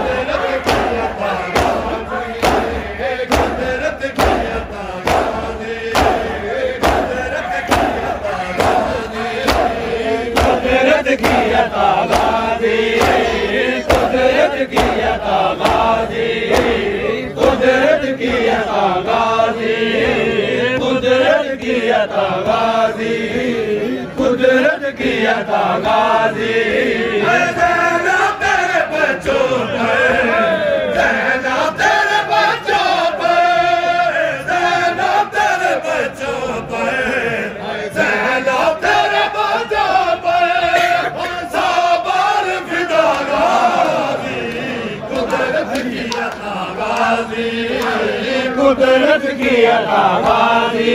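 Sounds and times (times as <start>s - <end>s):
rhythmic chest-beating slaps: 0.0s - 37.4s, 38.0s - 50.9s
men chanting a lament in unison: 0.0s - 50.9s.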